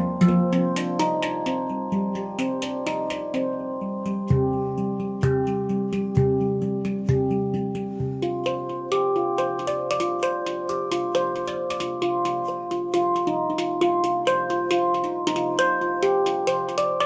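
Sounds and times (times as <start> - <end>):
melody of struck ringing notes: 0.0 - 17.0.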